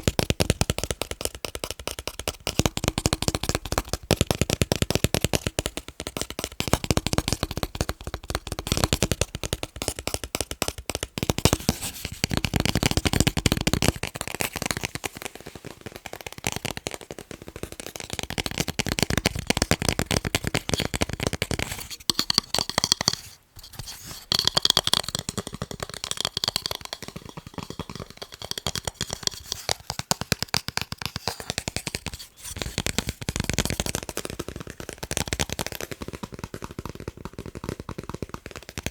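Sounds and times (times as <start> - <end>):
fingers tapping on picture frames: 0.0 - 38.9.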